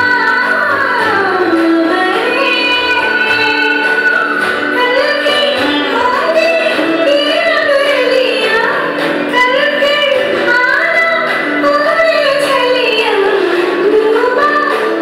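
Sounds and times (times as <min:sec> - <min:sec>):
instrumental accompaniment: 0:00.0 - 0:15.0
woman singing: 0:00.0 - 0:15.0.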